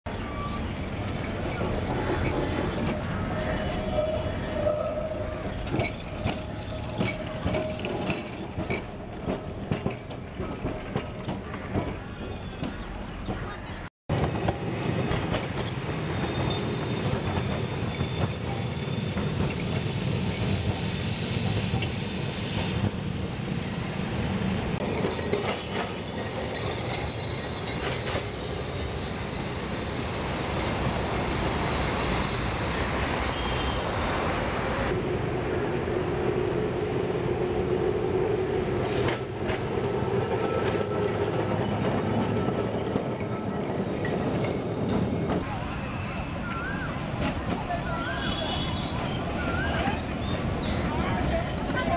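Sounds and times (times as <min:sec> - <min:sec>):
tram wheels clattering over rails: 0:00.2 - 0:23.1, 0:24.8 - 0:51.9.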